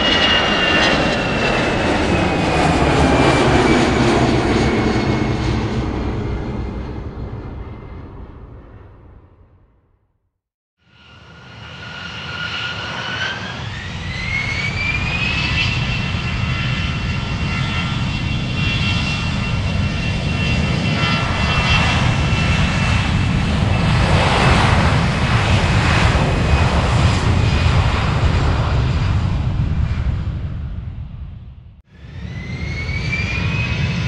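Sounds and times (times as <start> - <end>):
airplane engine roar: 0.0 - 10.0, 10.8 - 34.0
jet engine whine: 0.0 - 10.0, 10.8 - 34.0.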